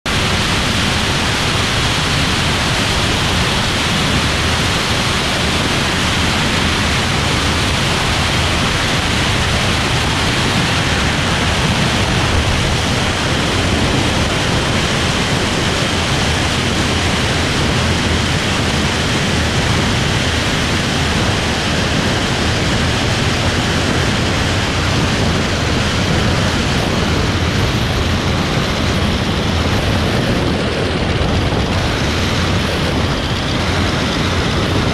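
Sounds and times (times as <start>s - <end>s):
airflow and engine roar: 0.0s - 34.9s.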